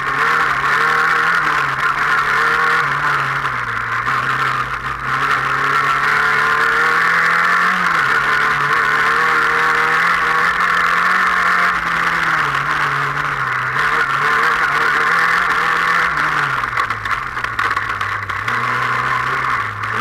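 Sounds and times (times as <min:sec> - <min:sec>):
race car engine revving: 0:00.0 - 0:20.0
road and wind noise: 0:00.0 - 0:20.0.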